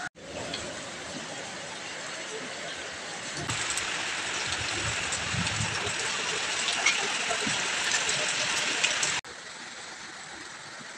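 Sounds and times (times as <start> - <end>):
water streaming off roof: 0.2 - 10.9
steady rain falling: 0.3 - 10.9.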